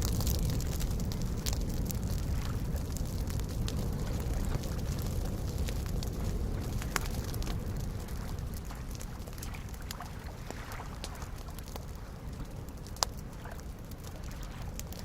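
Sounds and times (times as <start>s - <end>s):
small lake waves lapping: 0.0s - 15.0s
wood fire crackling: 0.0s - 15.0s.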